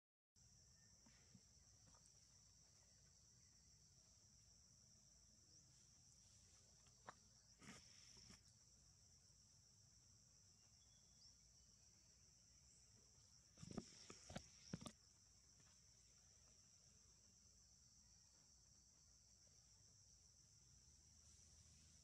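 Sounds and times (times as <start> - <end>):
insects droning: 0.4 - 22.0.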